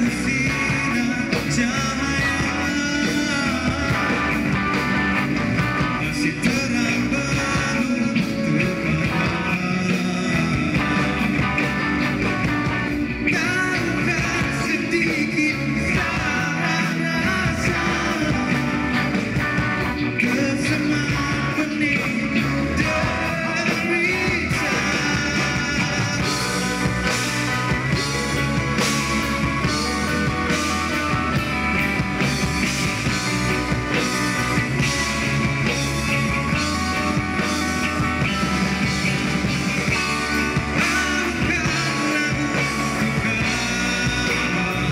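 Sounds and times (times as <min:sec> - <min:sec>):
live rock band playing: 0:00.0 - 0:44.9
male lead vocal: 0:00.0 - 0:44.9.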